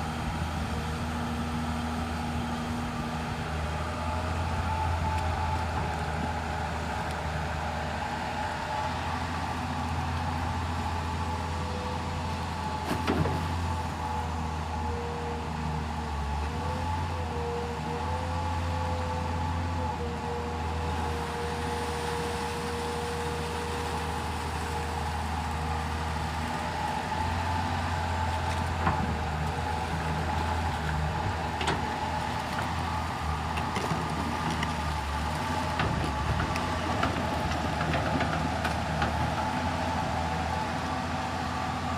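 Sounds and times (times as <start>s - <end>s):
excavator diesel engine droning: 0.0s - 41.9s.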